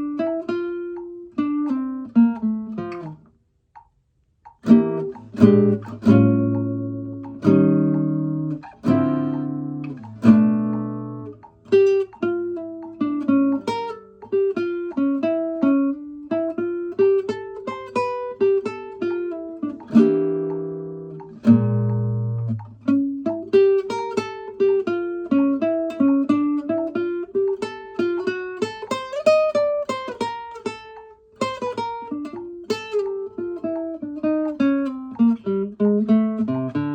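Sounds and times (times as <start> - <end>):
guitar plucked notes: 0.0 - 36.9
acoustic guitar strummed chords: 4.4 - 36.9.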